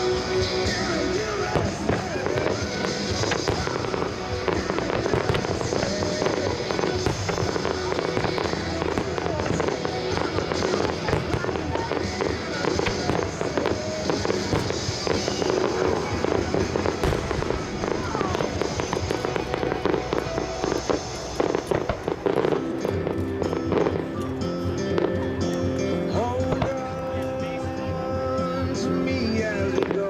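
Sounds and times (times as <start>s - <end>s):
fireworks bangs and crackles: 0.0s - 30.0s
music playing: 0.0s - 30.0s.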